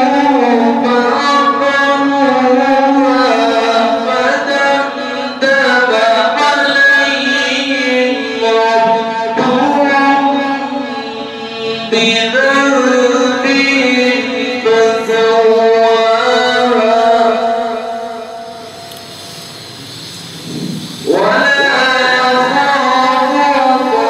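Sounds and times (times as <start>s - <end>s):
man chanting a slow melody: 0.0s - 18.8s, 21.0s - 24.0s.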